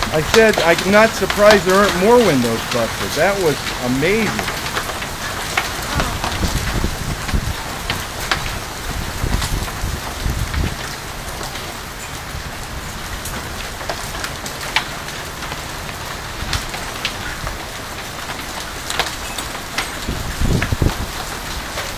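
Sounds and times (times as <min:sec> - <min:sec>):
hail and rain pattering: 0:00.0 - 0:21.9
hailstones knocking: 0:00.0 - 0:21.9.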